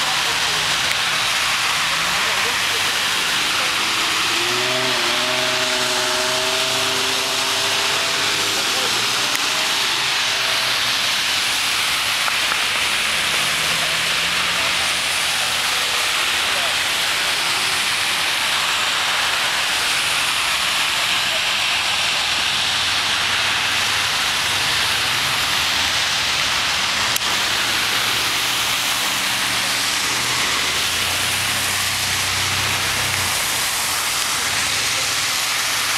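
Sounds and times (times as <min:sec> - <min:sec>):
heavy rain hissing: 0:00.0 - 0:35.9
vehicle engines humming: 0:00.0 - 0:35.9.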